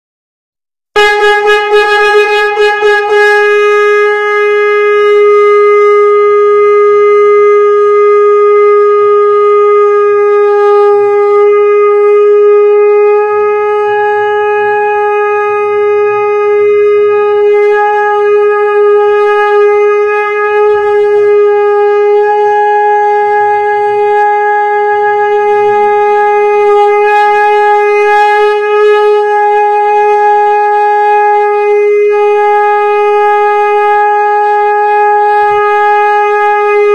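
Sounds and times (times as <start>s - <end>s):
conch shell blown: 0.9s - 36.9s.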